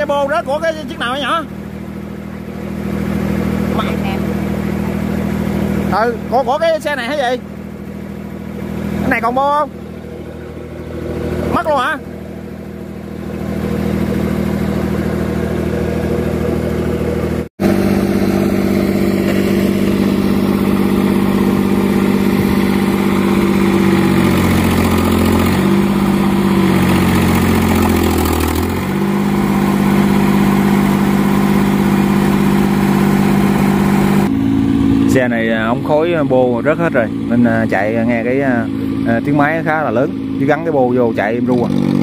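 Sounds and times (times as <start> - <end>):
loud unmuffled engine: 0.0 - 42.0.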